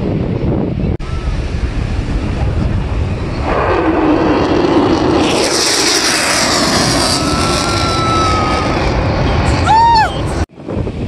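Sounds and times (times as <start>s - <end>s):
fighter jet roar: 1.0s - 10.5s.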